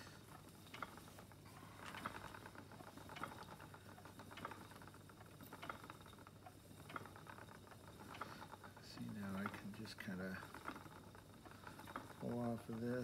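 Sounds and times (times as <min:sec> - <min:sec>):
wooden spinning wheel running: 0:00.0 - 0:13.0.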